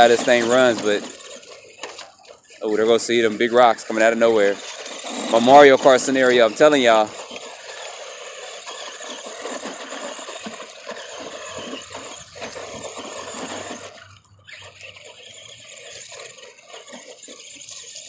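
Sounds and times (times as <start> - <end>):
electric motor whining: 0.0 - 18.0
tyres crunching on stones: 0.0 - 18.0.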